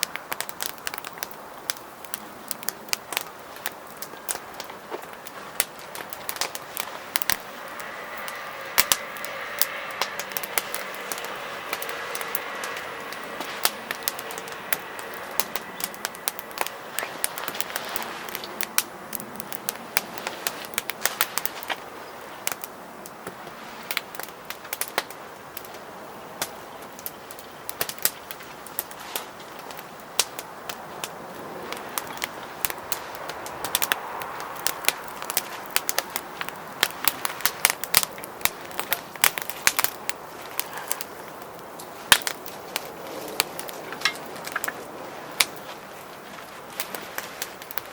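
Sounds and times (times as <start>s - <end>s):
firewood crackling and popping: 0.0s - 47.9s
steady fire hiss: 0.0s - 47.9s.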